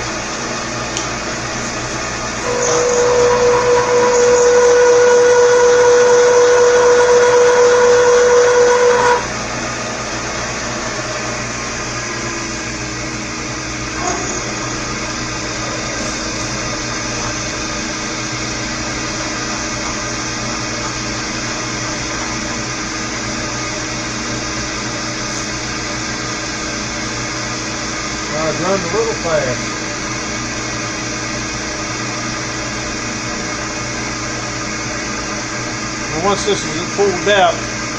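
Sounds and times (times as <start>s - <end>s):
cutter whine: 0.0s - 37.9s
milling machine running: 0.0s - 37.9s.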